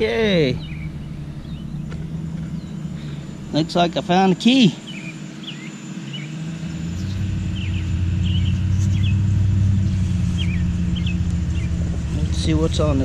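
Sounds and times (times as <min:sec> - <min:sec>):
low engine rumble: 0:00.0 - 0:13.0
small birds chirping: 0:00.0 - 0:13.0.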